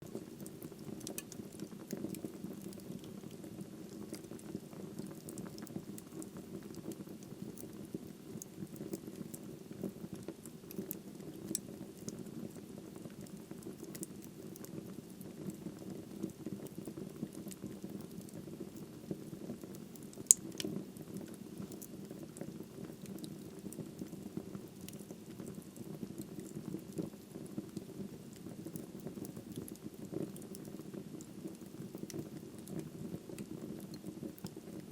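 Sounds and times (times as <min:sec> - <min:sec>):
crackles and pops of burning wood: 0:00.0 - 0:34.9.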